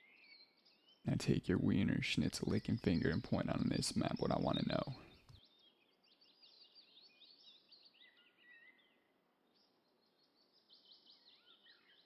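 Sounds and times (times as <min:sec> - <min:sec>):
faint songbirds chirping: 0:00.0 - 0:12.0.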